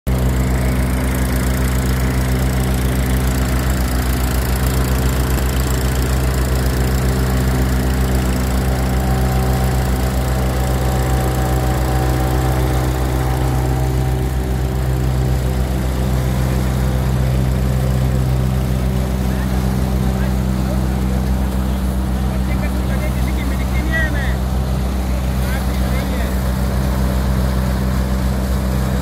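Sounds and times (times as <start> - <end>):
thresher mechanical hum: 0.1 - 29.0
tractor diesel engine drone: 0.1 - 29.0.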